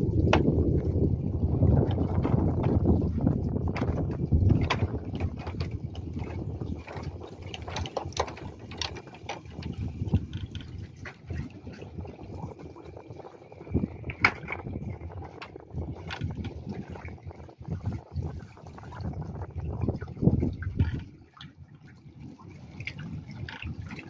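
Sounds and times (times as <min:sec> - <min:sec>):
seawater lapping against stilts: 0:00.0 - 0:24.0.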